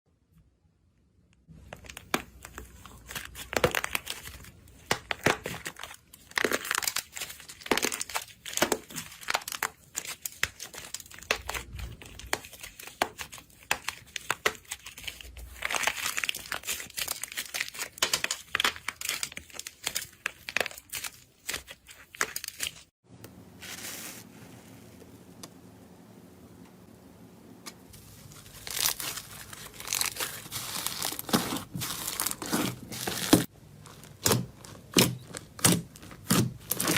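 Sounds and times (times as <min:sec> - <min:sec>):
slime crackling: 0:01.6 - 0:22.9, 0:27.8 - 0:36.9.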